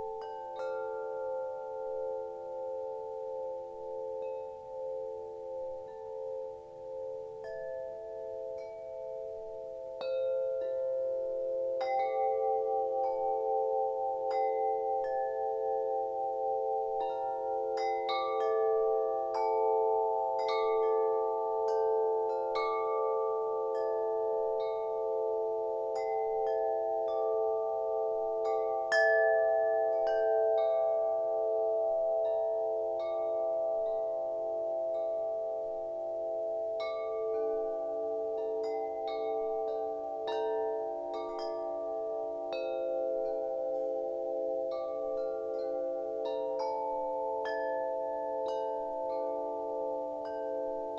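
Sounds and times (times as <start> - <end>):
wind chimes ringing: 0.0 - 50.9.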